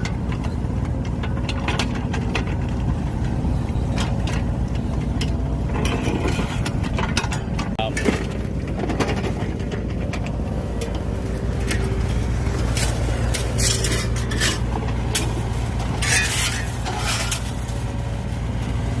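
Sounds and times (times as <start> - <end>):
metallic clanks and scrapes: 0.0 - 18.4
backhoe engine running: 0.0 - 19.0.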